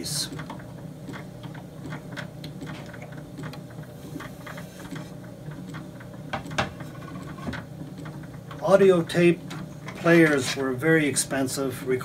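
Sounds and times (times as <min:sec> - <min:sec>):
turntable motor humming: 0:00.0 - 0:12.0.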